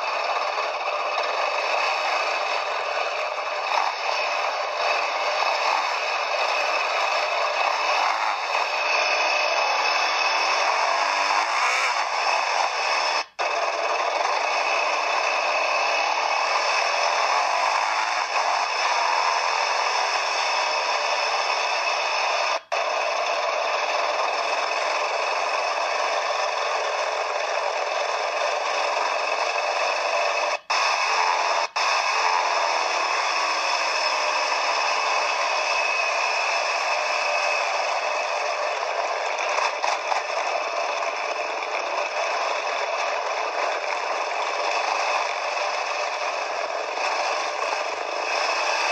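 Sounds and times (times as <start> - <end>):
quad bike rattling ride noise: 0.0 - 48.9.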